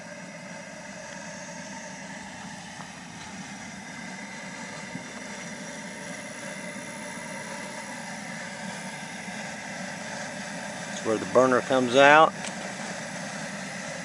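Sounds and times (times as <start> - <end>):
propane burner roaring: 0.0 - 14.0.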